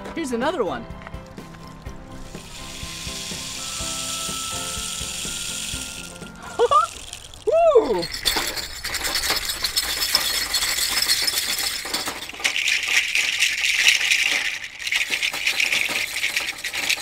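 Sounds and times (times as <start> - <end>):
rain stick pellets rattling: 1.3 - 17.0.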